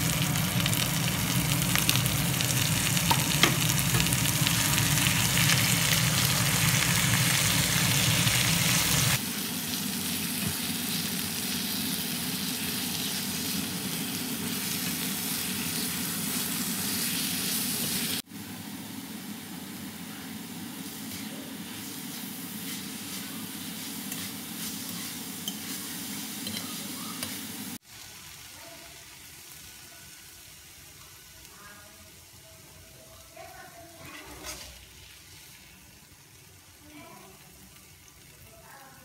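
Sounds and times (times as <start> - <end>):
meat sizzling in a frying pan: 0.0 - 18.3, 20.8 - 39.0.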